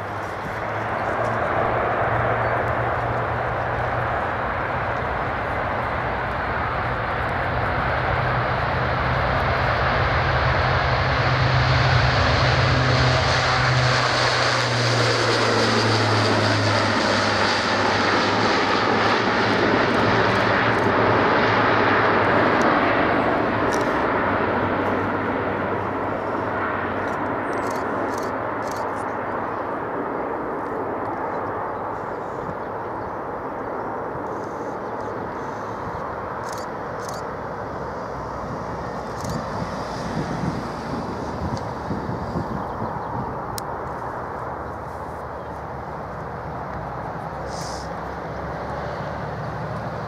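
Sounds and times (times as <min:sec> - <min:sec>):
turboprop aircraft drone: 0:00.0 - 0:50.0.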